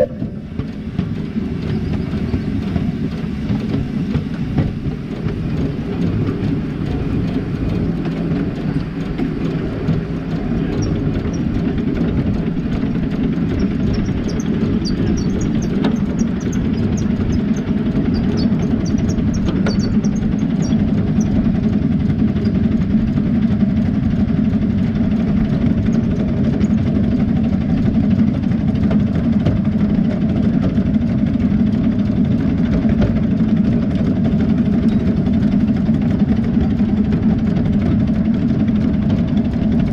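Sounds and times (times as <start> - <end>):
miniature steam locomotive rumbling: 0.0 - 39.9.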